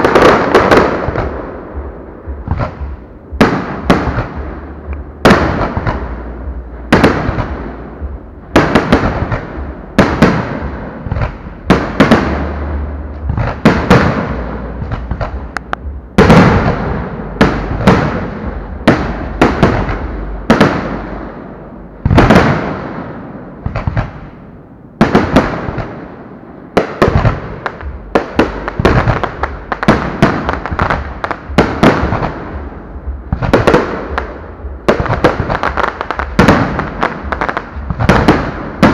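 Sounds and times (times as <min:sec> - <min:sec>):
rolling echo: 0:00.0 - 0:38.9.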